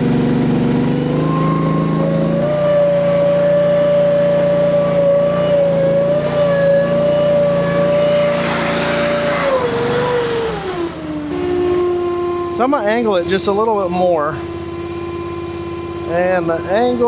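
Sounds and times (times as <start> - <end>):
engine and broom whine: 0.0 - 17.0.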